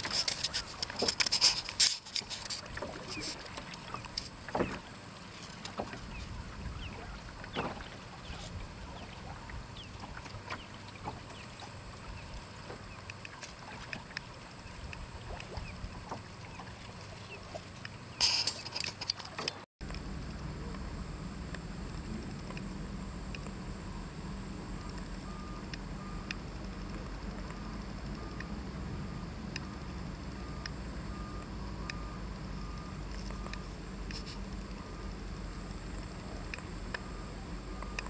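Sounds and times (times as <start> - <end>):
water splashing along a boat hull: 0.0 - 38.0.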